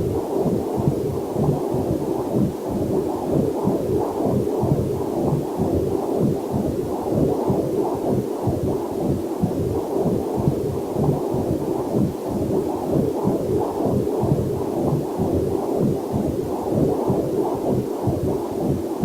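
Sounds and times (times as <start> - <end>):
fetal heartbeat pulse: 0.0 - 19.0.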